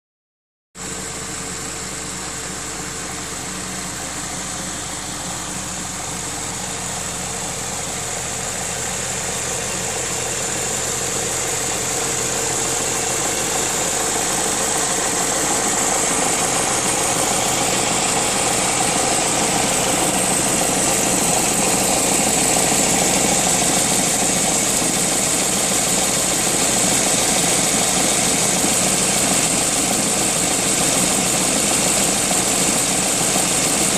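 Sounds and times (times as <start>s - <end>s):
car engine idling: 0.8s - 33.9s.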